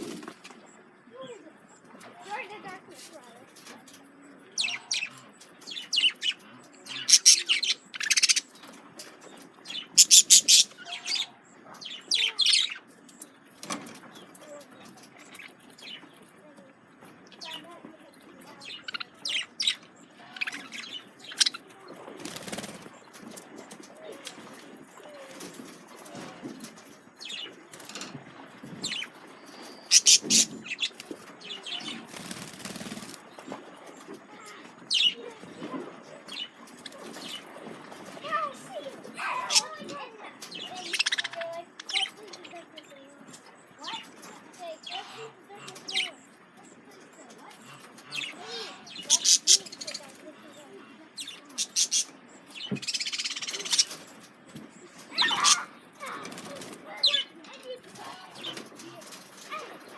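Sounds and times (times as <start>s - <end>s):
budgerigars chirping and chattering: 0.8s - 59.9s.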